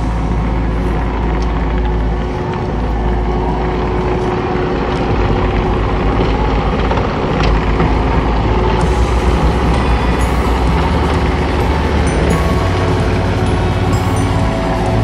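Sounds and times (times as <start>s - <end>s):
heavy machinery engine rumbling: 0.0s - 15.0s.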